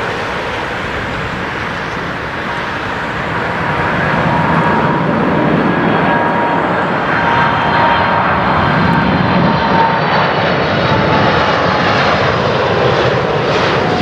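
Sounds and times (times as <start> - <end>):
faint jet whine: 0.0 - 14.0
jet engines rushing: 0.0 - 14.0.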